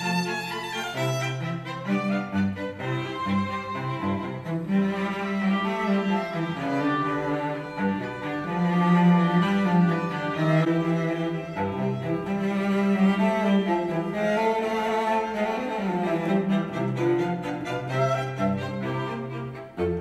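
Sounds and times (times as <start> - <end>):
classical music over speakers: 0.0 - 20.0.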